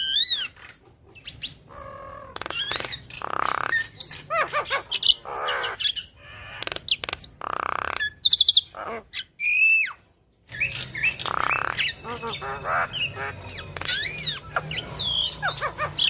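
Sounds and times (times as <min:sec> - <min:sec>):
myna bird singing: 0:00.0 - 0:16.0.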